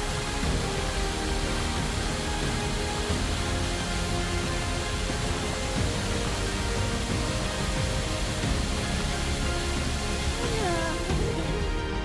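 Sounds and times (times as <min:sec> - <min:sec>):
background music: 0:00.0 - 0:12.0
waterfall rushing: 0:00.0 - 0:12.0.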